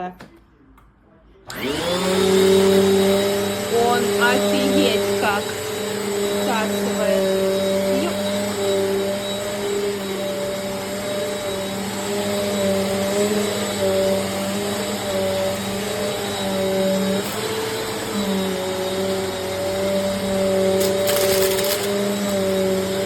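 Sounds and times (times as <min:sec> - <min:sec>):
vacuum cleaner running: 0:01.5 - 0:23.0.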